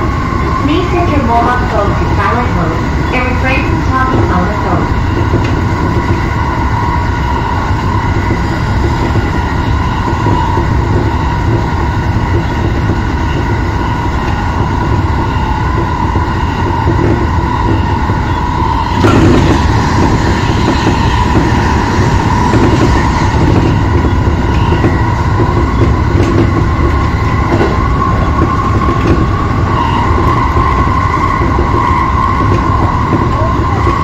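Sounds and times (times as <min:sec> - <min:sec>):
traction motor whine: 0:00.0 - 0:34.0
wheels rumbling on rail: 0:00.0 - 0:34.0.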